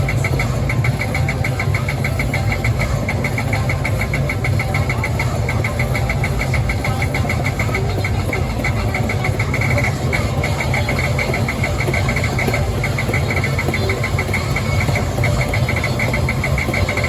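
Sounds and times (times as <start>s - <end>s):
rapid high-pitched ticking: 0.0s - 17.0s
vehicle engine running: 0.0s - 17.0s.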